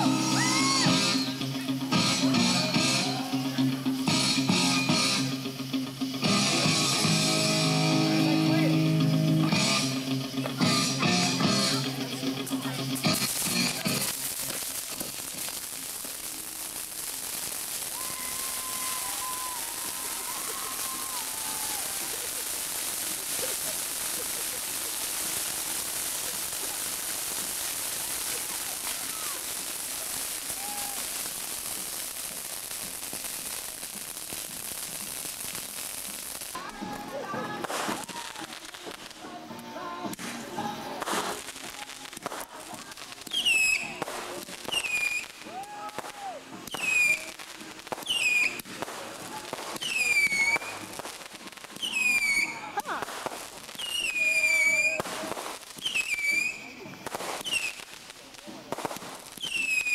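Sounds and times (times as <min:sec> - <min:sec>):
firework crackling hiss: 0:00.0 - 0:59.9.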